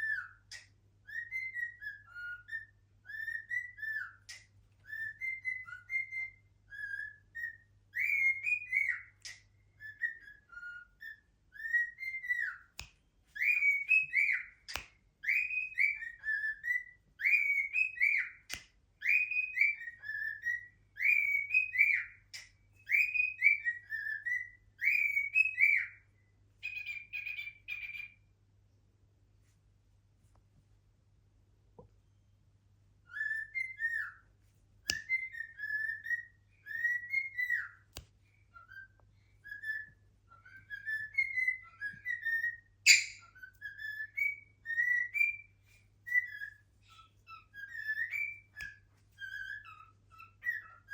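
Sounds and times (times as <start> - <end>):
cockatiel whistling: 0.0 - 28.2, 33.0 - 50.9.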